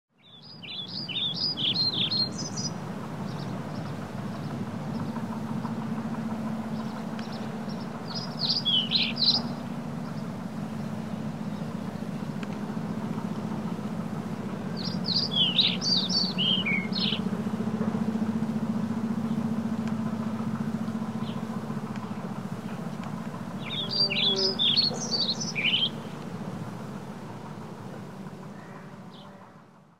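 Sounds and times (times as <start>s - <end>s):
songbird singing: 0.1s - 29.7s
low hum: 0.4s - 29.9s.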